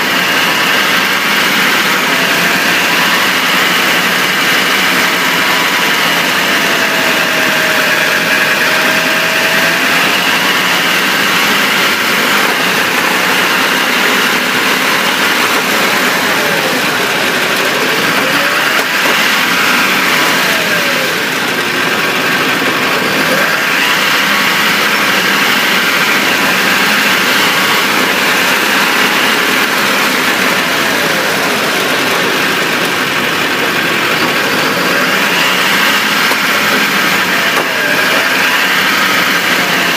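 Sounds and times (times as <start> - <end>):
faint drivetrain whine: 0.0 - 39.9
road and engine noise: 0.0 - 39.9.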